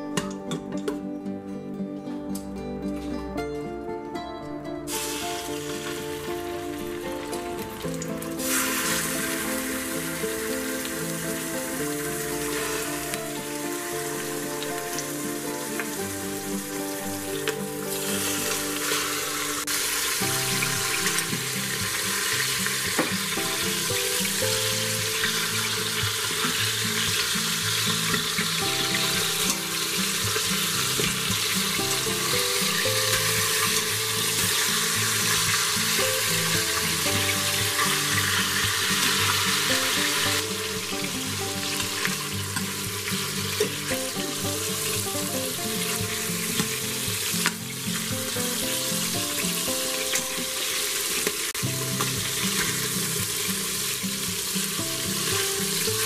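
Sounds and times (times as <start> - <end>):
background music: 0.0 - 56.0
chicken sizzling in oil: 4.9 - 56.0.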